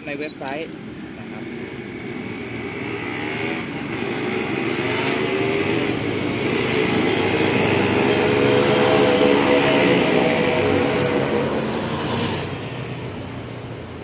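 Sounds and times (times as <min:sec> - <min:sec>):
vehicle engine passing by: 0:01.3 - 0:13.2.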